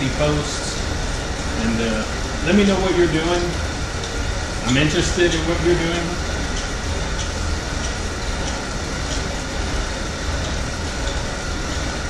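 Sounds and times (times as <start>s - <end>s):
exercise bike whirring: 0.0s - 12.0s.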